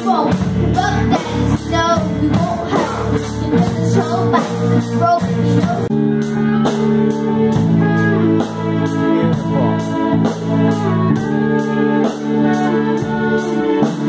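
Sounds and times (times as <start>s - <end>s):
electric guitar: 0.0s - 14.0s
electronic organ chords: 0.0s - 14.0s
person singing: 0.0s - 14.0s
rock band playing: 0.0s - 14.0s.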